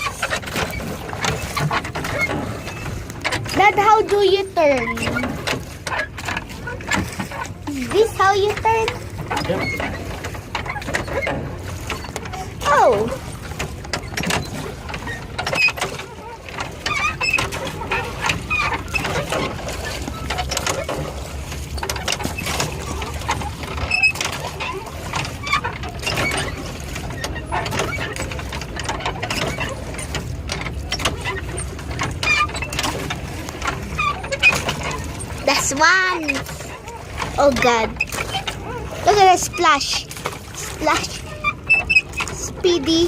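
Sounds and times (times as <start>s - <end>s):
boat drive mechanism clicking: 0.0s - 43.0s.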